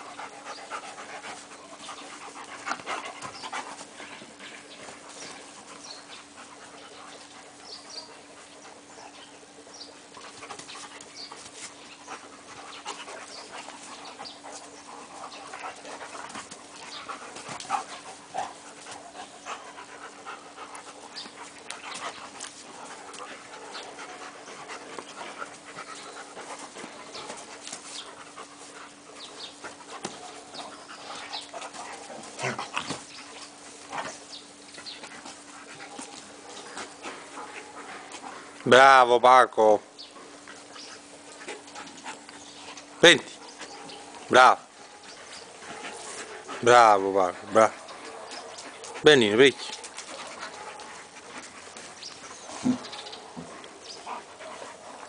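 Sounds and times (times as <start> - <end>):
dogs panting heavily: 0.0 - 55.0
dogs scuffling: 0.0 - 55.0.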